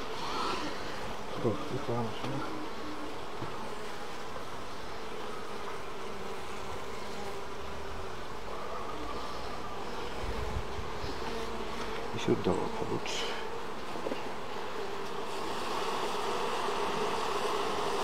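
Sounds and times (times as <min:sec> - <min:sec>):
bee buzzing past close: 0:00.0 - 0:18.0
honeybees buzzing: 0:00.0 - 0:18.0.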